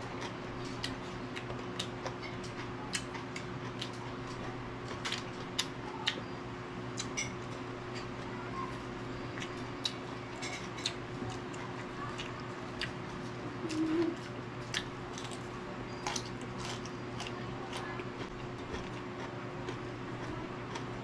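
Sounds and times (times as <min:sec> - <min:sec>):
crunchy eating of vegetables: 0:00.0 - 0:21.0
steady low hum: 0:00.0 - 0:21.0.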